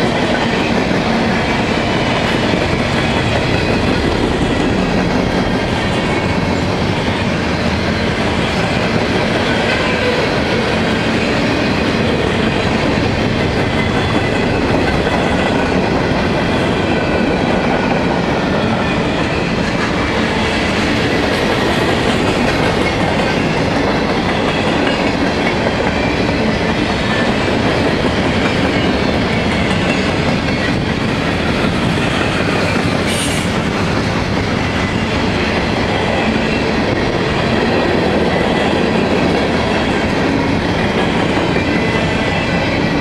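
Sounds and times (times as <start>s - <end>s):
freight train rolling past: 0.0s - 43.0s.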